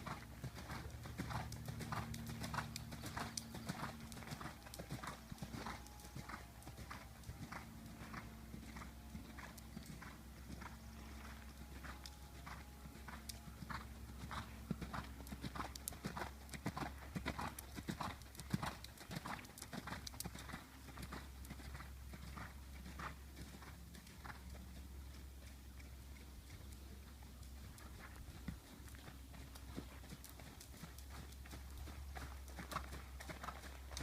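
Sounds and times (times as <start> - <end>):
horse hoofbeats cantering: 0.0 - 34.0.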